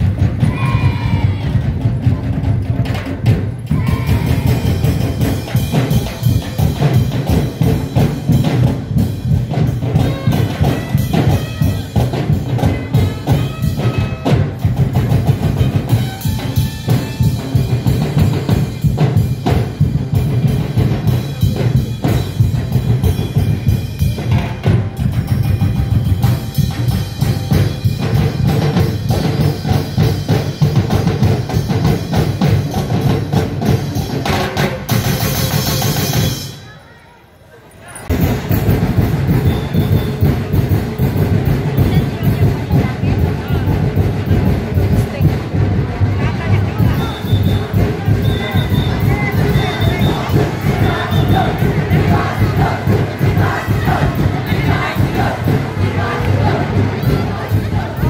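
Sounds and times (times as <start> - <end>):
heavy low drum beat: 0.0 - 36.3, 38.1 - 58.0
busy drumming: 0.0 - 36.7, 38.1 - 58.0.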